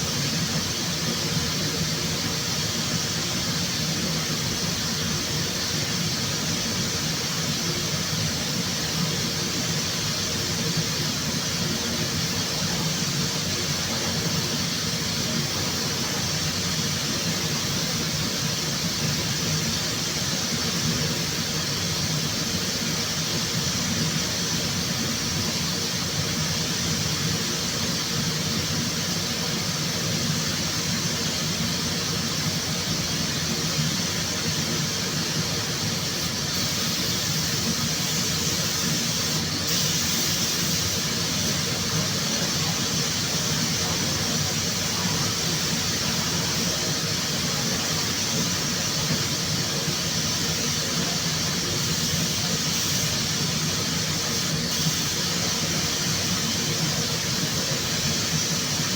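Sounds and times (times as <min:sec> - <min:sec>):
workshop machine hiss: 0:00.0 - 0:58.9.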